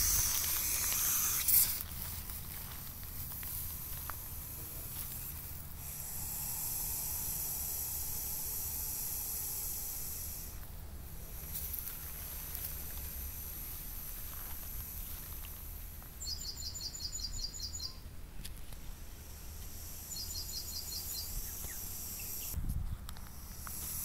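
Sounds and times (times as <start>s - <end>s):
snake hissing: 0.0s - 16.5s, 18.7s - 22.6s, 23.3s - 24.0s.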